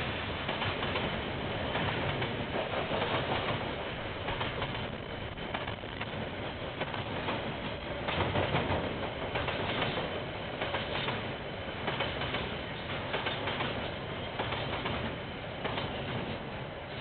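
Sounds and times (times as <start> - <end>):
clicks and knocks of train: 0.0 - 17.0
train wheels rumbling on rails: 0.0 - 17.0.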